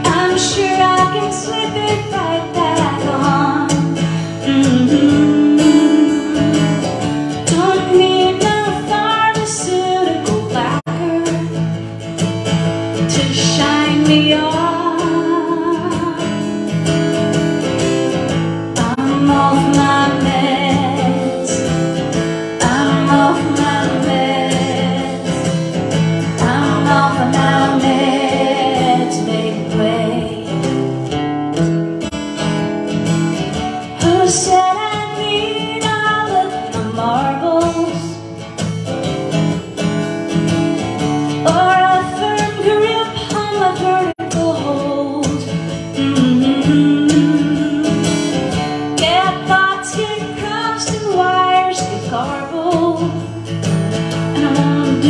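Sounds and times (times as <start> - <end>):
woman singing: 0.0 - 11.8, 12.9 - 17.1, 18.8 - 30.9, 33.6 - 38.5, 41.3 - 55.0
strummed acoustic guitar: 0.0 - 55.0.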